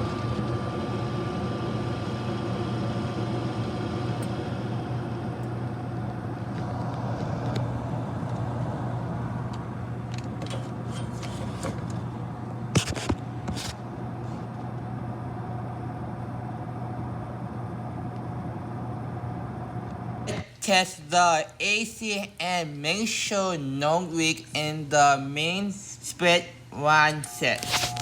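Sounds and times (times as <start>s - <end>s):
air conditioning hum: 0.0s - 28.0s.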